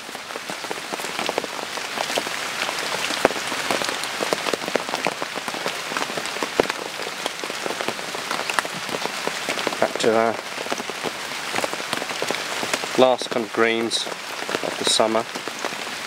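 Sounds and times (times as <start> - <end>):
heavy rain falling: 0.0 - 16.0
raindrops striking close by: 0.0 - 16.0.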